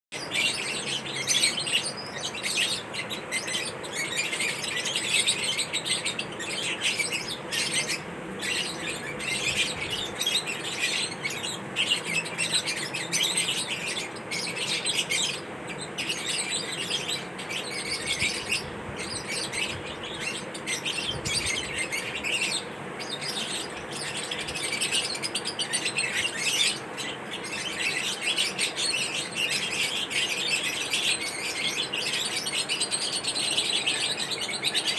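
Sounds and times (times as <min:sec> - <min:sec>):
lovebirds chirping: 0:00.2 - 0:34.9.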